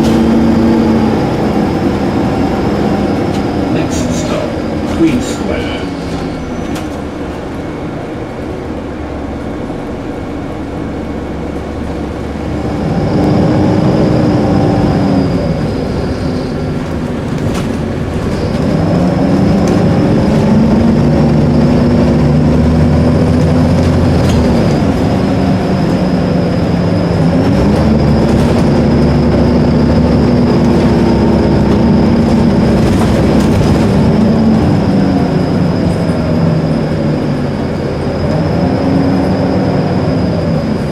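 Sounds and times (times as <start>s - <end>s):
diesel bus engine accelerating: 0.0s - 40.9s.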